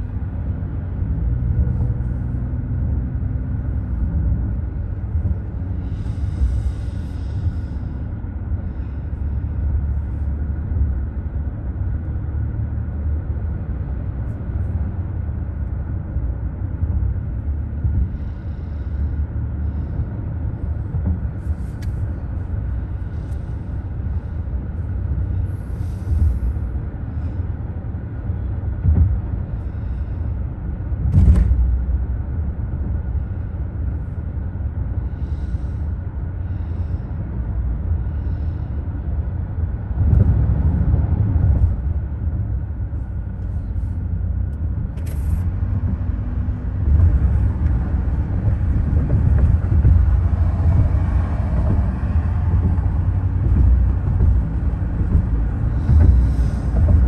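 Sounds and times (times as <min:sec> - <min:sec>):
car tyre and engine rumble: 0:00.0 - 0:57.0.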